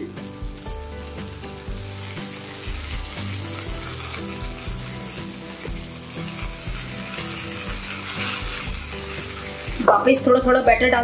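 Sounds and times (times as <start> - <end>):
batter sizzling in a pan: 0.0 - 11.0
soft background music: 0.0 - 11.0.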